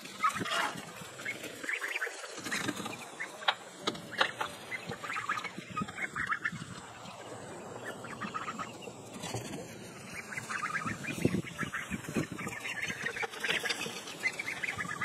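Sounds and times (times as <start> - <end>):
poultry chattering: 0.0 - 15.0.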